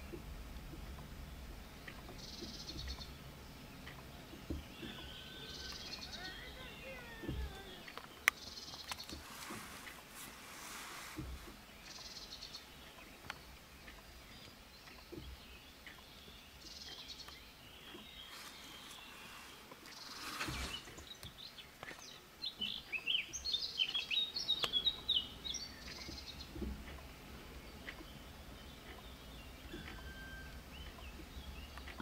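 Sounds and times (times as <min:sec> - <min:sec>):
faint clicks: 0:00.0 - 0:32.0
songbird chirping: 0:00.0 - 0:32.0.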